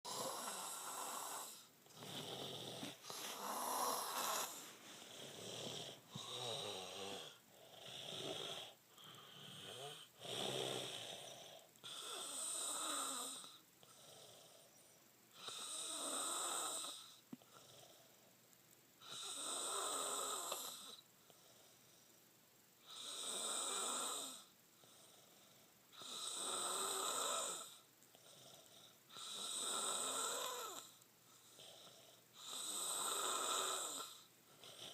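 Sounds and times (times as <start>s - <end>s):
person snoring: 0.1s - 14.7s, 15.4s - 18.1s, 19.0s - 21.6s, 22.9s - 25.3s, 26.0s - 30.9s, 31.6s - 34.9s.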